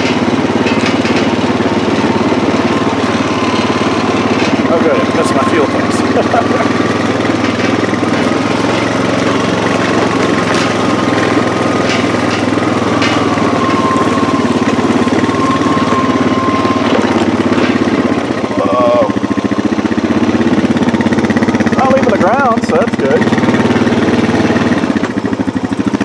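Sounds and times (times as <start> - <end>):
atv engine running: 0.0 - 26.0
towed cart frame knocks: 0.0 - 26.0.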